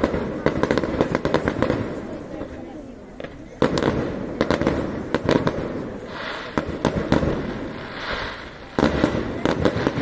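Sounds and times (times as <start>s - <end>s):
fireworks bangs: 0.0s - 10.0s
fizzing crackle of fireworks: 0.0s - 10.0s.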